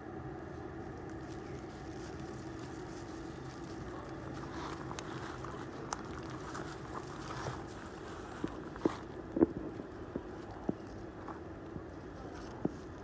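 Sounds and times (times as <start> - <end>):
low mechanical hum: 0.0 - 13.0
rustling in dry leaves: 0.5 - 13.0.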